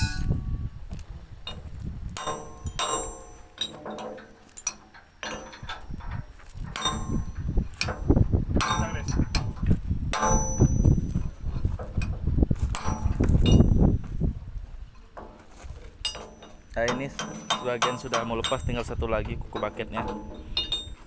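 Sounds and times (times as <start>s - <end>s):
hammer clanging on steel: 2.2s - 14.1s, 15.2s - 21.0s.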